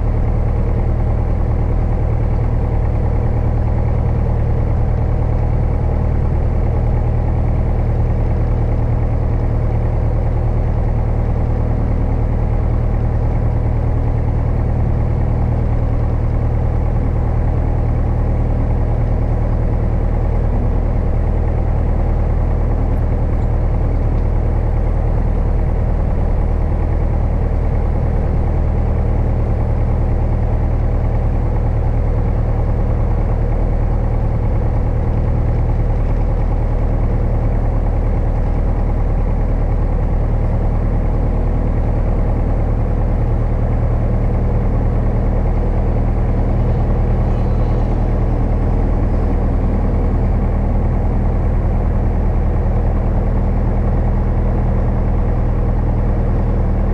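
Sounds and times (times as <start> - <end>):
light aircraft engine idling: 0.0 - 56.9.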